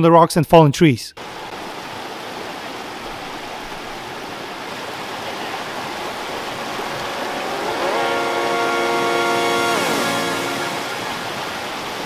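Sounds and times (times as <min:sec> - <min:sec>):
creek rushing over boulders: 0:01.2 - 0:12.0.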